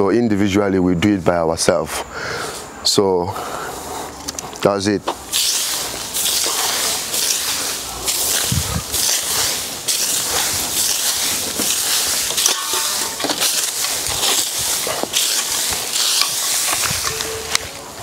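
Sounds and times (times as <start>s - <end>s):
broom sweeping sandy dirt: 3.4s - 18.0s.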